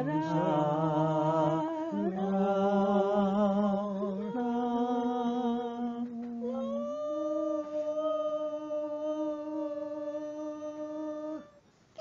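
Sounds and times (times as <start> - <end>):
elderly man singing wordlessly: 0.0 - 11.6.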